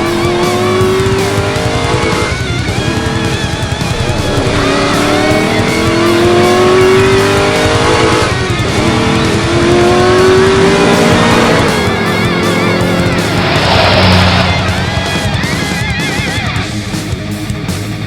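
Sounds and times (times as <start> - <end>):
car engine revving: 0.0 - 18.0
high-energy rock music: 0.0 - 18.0.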